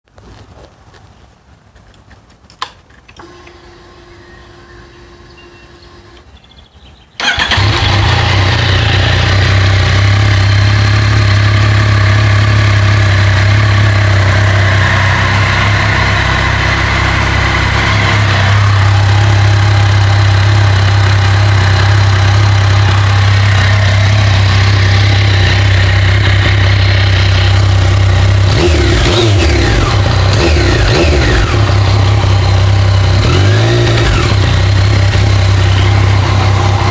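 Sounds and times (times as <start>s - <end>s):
motorcycle engine idling and revving: 7.1s - 36.9s.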